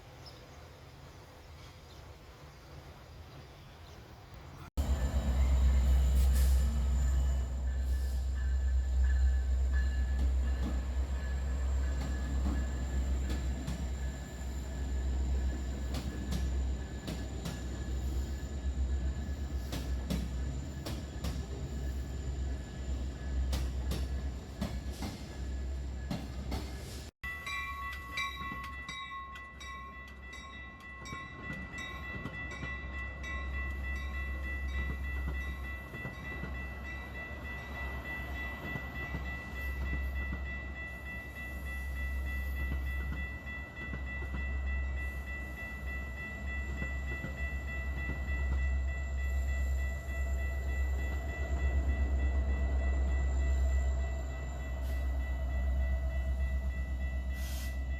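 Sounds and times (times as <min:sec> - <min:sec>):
train rumble: 0:04.1 - 0:57.9.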